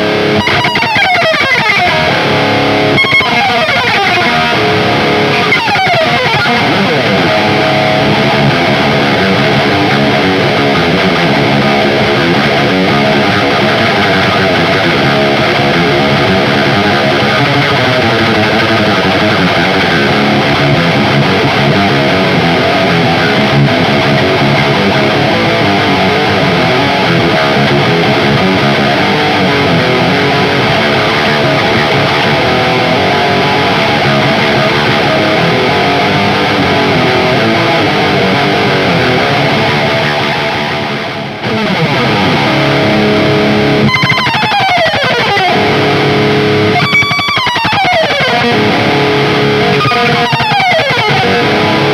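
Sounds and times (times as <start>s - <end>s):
distorted electric guitar: 0.0s - 51.9s.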